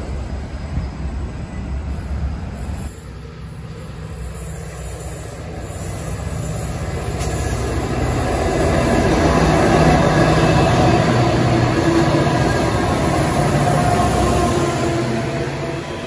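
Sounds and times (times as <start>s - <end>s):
diesel locomotive engines: 0.0s - 16.0s.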